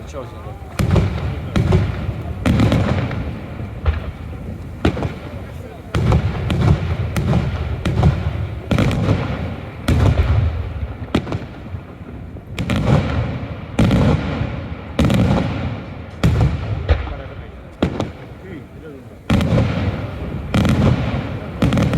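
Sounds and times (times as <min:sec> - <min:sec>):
fireworks bursting with bangs: 0:00.0 - 0:21.9
low rolling rumble: 0:00.0 - 0:21.9.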